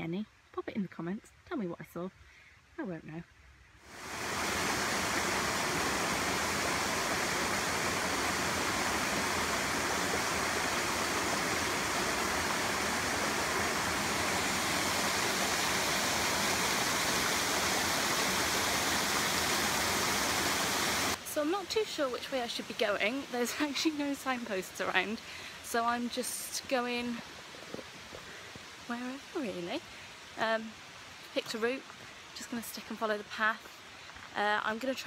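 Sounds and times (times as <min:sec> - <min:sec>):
stream rushing over stones: 0:03.8 - 0:33.0.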